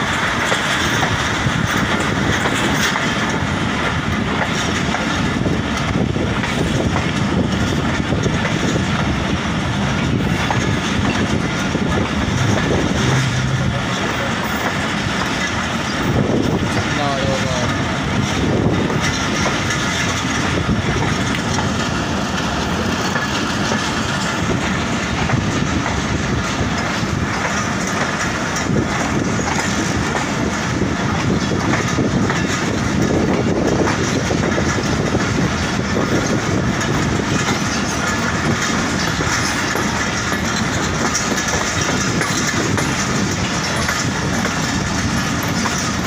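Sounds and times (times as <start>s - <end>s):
train wheel clacks: 0.0s - 46.0s
train wheels on rails: 0.0s - 46.0s.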